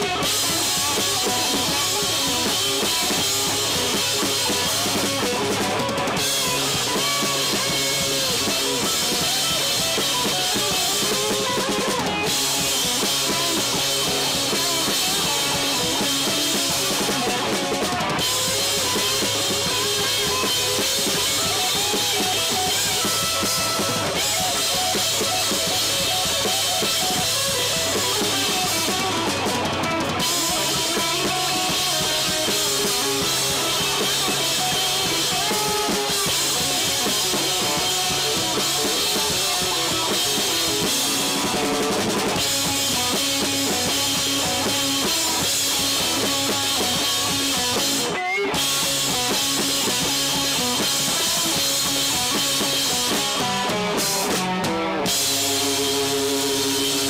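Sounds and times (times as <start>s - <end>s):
drum kit: 0.0s - 57.0s
electric bass guitar: 0.0s - 57.0s
electric guitars: 0.0s - 57.0s.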